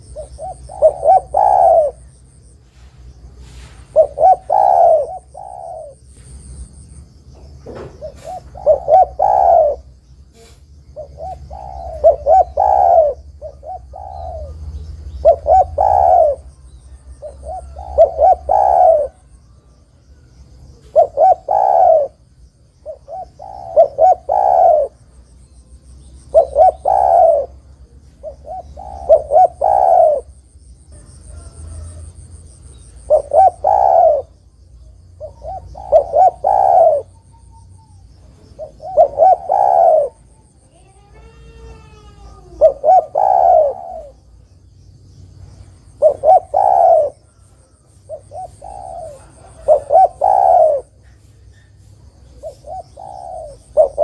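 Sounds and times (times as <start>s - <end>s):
dove cooing: 0.0s - 6.6s, 7.4s - 19.9s, 20.5s - 25.1s, 26.2s - 34.4s, 35.2s - 44.3s, 45.8s - 54.0s.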